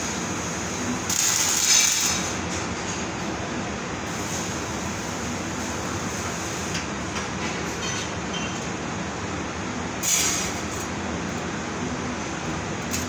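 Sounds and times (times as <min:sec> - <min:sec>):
workshop machinery din: 0:00.0 - 0:13.0.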